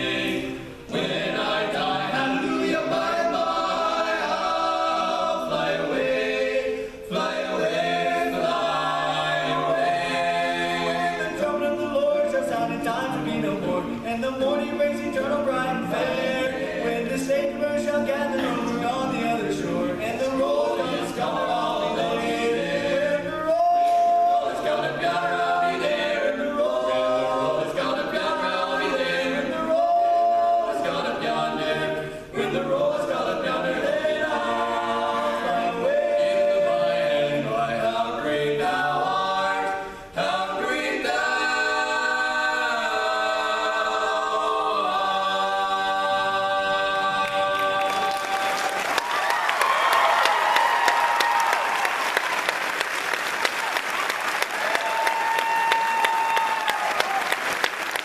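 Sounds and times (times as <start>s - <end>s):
quartet singing a cappella: 0.0s - 51.7s.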